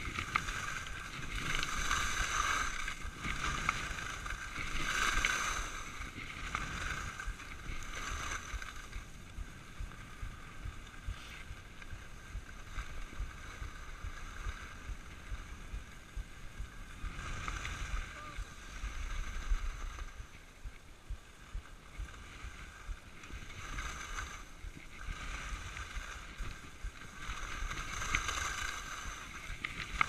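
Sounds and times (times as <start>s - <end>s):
skis scraping over snow: 0.0s - 30.0s
wind on microphone: 0.0s - 30.0s.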